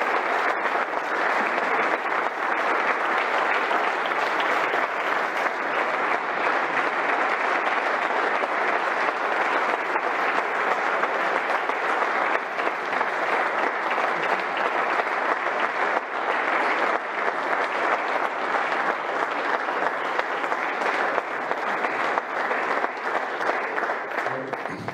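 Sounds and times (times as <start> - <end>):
crowd applauding: 0.0 - 24.9.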